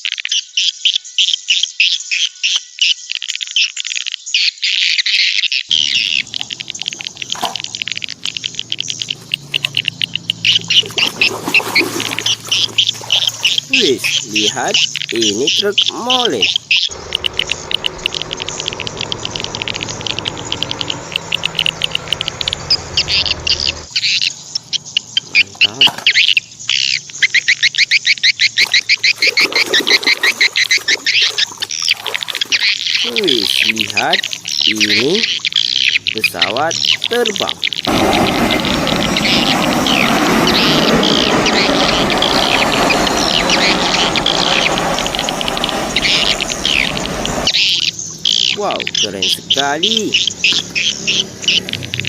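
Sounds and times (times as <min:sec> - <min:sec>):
small birds chirping: 0:00.4 - 0:52.0.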